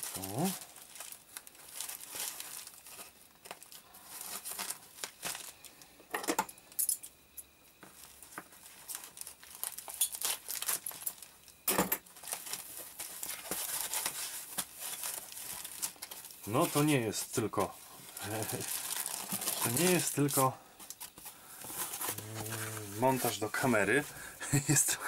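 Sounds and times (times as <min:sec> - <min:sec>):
foam and tape crinkling: 0:00.0 - 0:05.9, 0:07.8 - 0:24.9.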